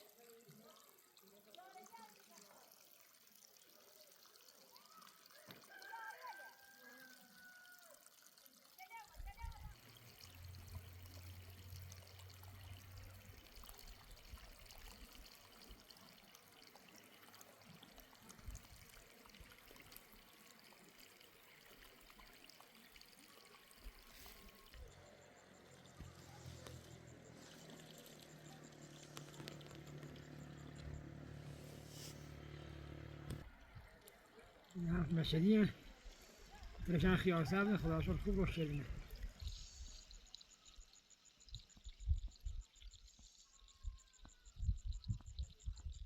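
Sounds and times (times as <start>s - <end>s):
water trickling and pouring: 0.0s - 45.9s.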